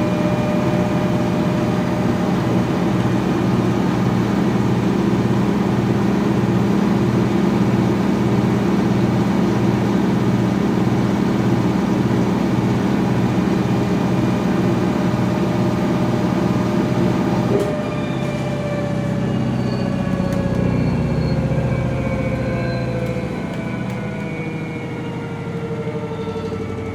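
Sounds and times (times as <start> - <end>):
washing machine spin drone: 0.0 - 26.9.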